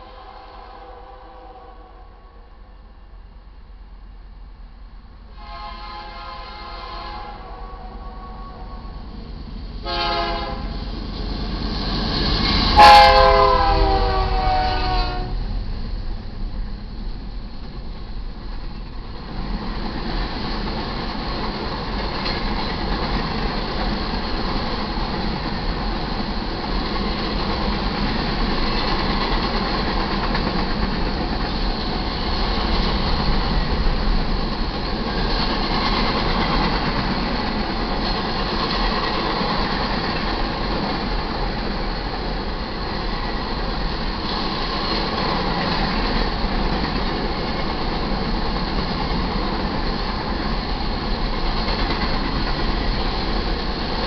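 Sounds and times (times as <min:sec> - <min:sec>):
steel wheels rumbling on rail: 0:04.5 - 0:54.0.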